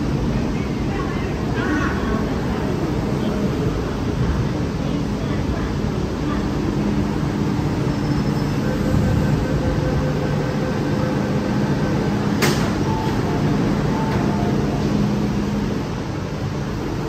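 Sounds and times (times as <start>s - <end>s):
metro car hum: 0.0s - 17.0s.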